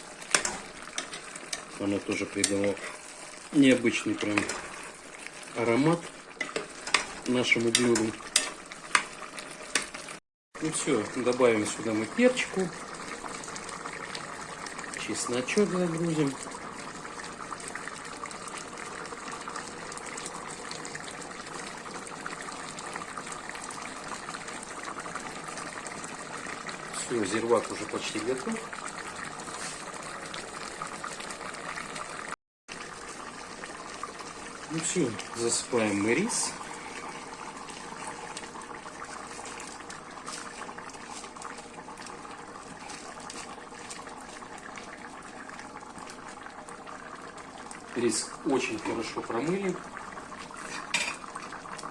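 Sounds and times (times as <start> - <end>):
broth bubbling in a pot: 0.0 - 51.9.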